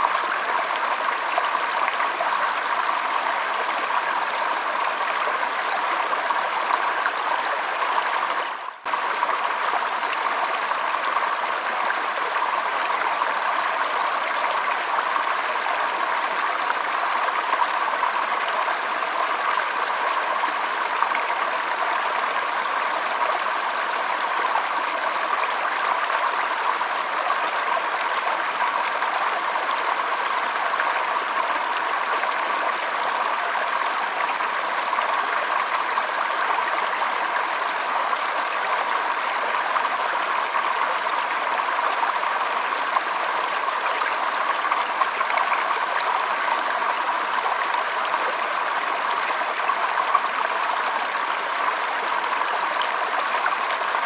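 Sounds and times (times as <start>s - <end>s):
stream babbling: 0.0s - 54.0s.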